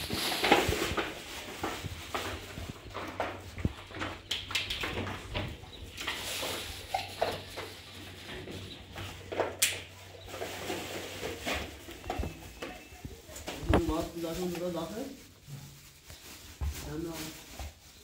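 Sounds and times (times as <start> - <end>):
plastic bag rustling: 0.0 - 18.0.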